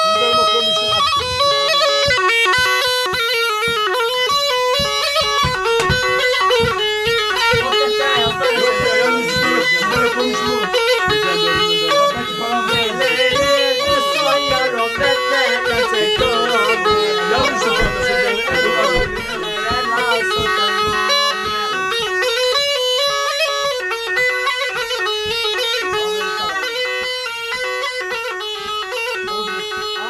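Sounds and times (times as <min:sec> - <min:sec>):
bagpipe trilling melody: 0:00.0 - 0:30.0
regular beat: 0:00.0 - 0:30.0.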